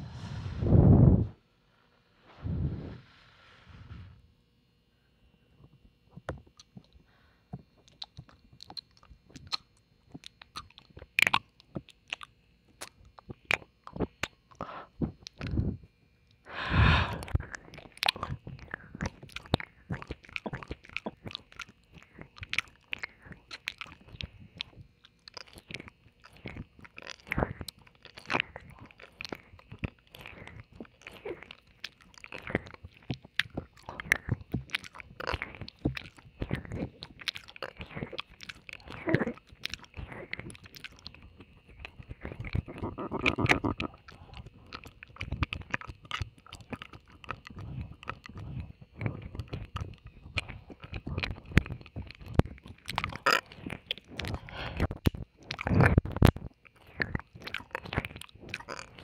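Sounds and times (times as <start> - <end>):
tongue clicks smacks and licks: 7.8 - 14.6, 17.2 - 59.0.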